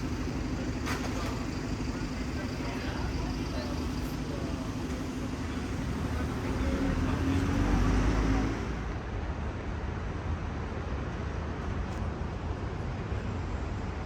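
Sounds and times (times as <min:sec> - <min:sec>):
low rumble of road noise: 0:00.0 - 0:14.0.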